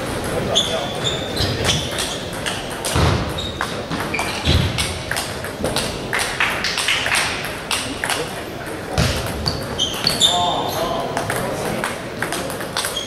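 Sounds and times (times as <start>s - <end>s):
table tennis balls clicking: 0.0s - 13.0s.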